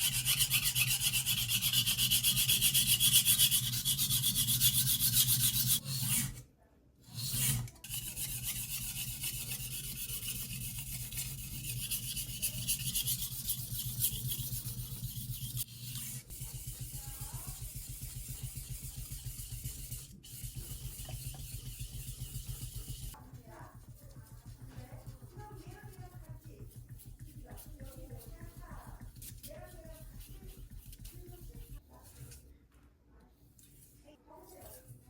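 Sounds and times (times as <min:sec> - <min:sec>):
knife sharpening on whetstone: 0:00.0 - 0:06.4, 0:07.0 - 0:32.4.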